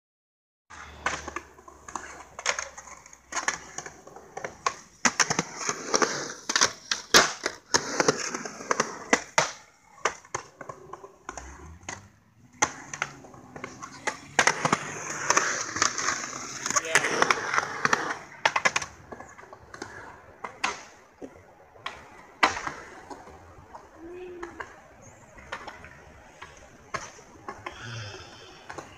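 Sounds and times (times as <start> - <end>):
skateboard clacking on concrete: 0.7 - 27.8, 28.4 - 28.9
skateboard wheels rolling: 0.7 - 28.9.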